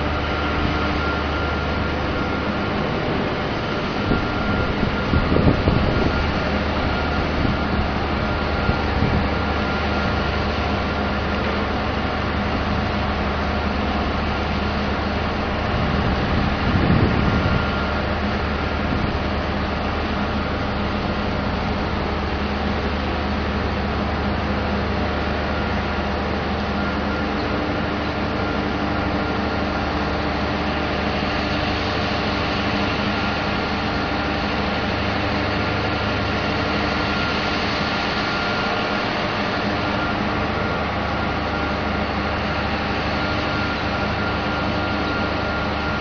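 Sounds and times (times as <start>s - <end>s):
drilling rig machinery droning: 0.0s - 46.0s
faint high whine: 0.0s - 46.0s.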